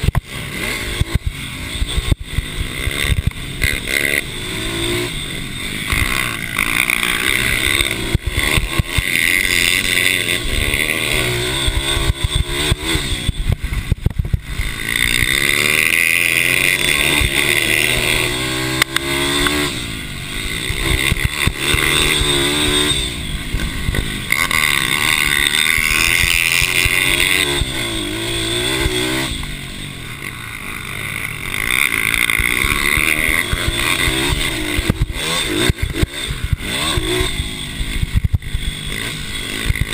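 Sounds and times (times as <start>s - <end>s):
mini bike engines revving: 0.0s - 39.9s.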